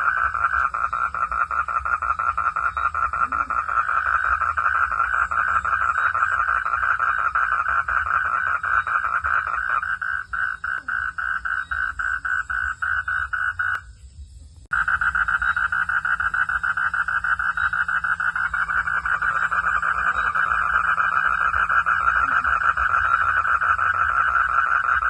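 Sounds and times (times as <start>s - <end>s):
frogs calling in pulsing chorus: 0.0s - 14.0s, 14.7s - 25.0s.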